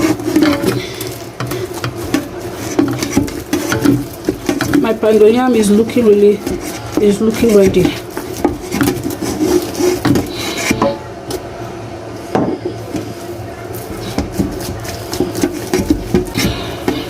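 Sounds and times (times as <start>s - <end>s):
utensil scraping and knocking on dish: 0.0s - 11.0s, 14.0s - 17.0s
steady low hum: 0.0s - 17.0s.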